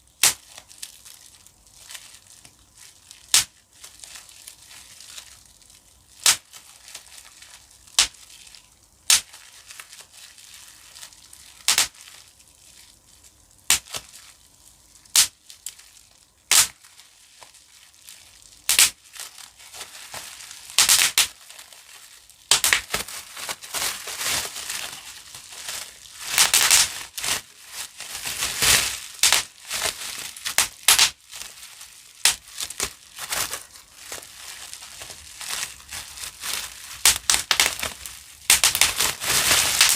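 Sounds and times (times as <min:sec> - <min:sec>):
bubble wrap popping: 0:00.0 - 0:39.9
plastic crinkling: 0:00.0 - 0:39.9.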